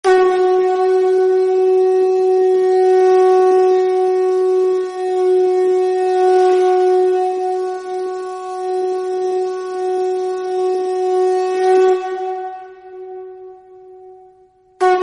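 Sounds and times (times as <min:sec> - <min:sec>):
conch shell blown: 0:00.0 - 0:15.0.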